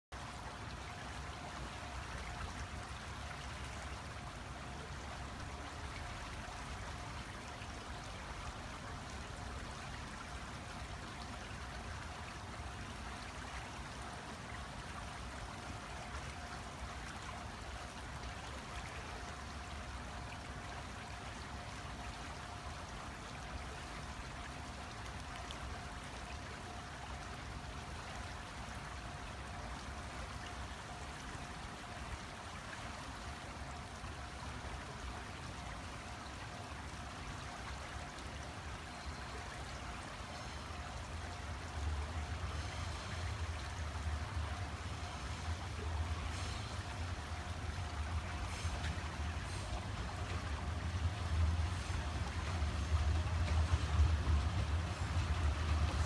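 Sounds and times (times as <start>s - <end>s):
faint constant high tone: 0.2s - 56.0s
running water rushing: 0.2s - 56.0s.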